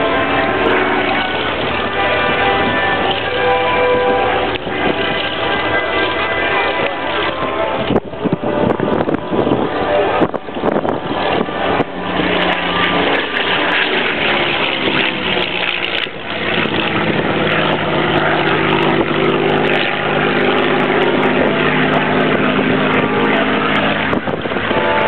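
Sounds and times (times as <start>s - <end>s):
aircraft piston engine droning: 0.0s - 25.0s.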